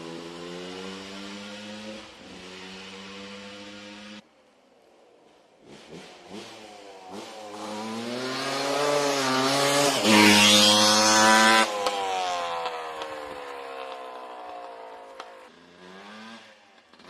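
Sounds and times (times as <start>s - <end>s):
two-stroke engine revving: 0.0s - 4.2s, 5.6s - 17.0s.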